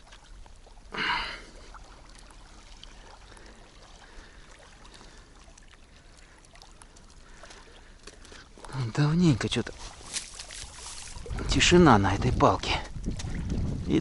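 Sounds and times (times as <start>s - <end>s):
water splash: 0.0s - 12.4s
water trickling and lapping: 0.0s - 14.0s.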